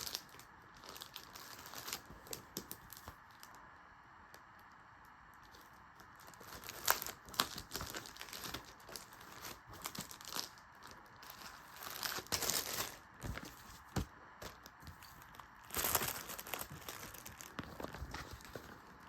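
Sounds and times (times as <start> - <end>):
packaging crinkling and tearing: 0.0 - 3.6, 5.5 - 19.0.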